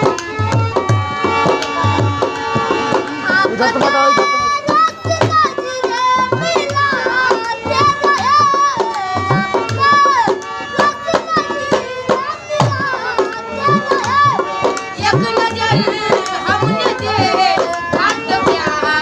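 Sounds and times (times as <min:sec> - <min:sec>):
dhol drum beating: 0:00.0 - 0:19.0
harmonium held notes: 0:00.0 - 0:19.0.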